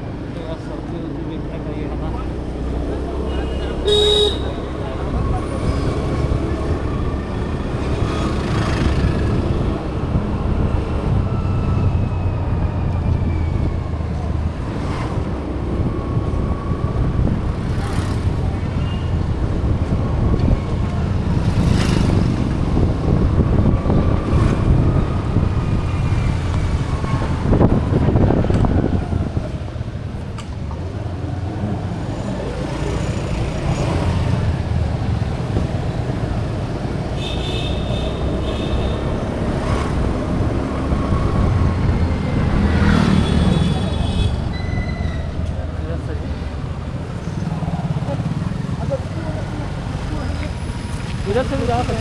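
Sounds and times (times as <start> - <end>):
road traffic engine and tyre rumble: 0.0 - 52.0.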